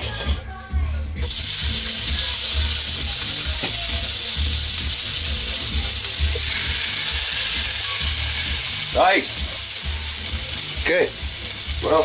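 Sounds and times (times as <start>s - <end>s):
steak sizzling in a frying pan: 1.2s - 12.0s.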